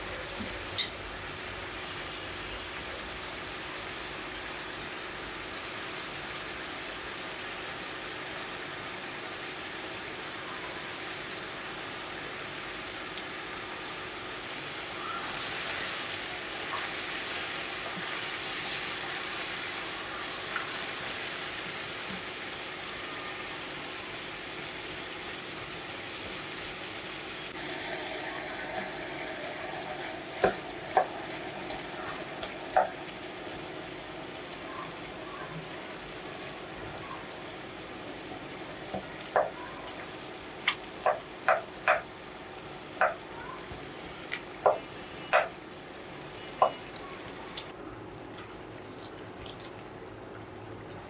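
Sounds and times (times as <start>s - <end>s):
curry sizzling in a pot: 0.0s - 51.0s.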